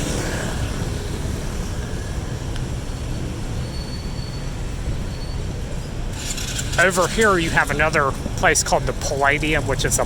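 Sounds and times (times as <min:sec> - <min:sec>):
city street traffic rumble: 0:00.0 - 0:10.0
faint high whine: 0:00.0 - 0:10.0.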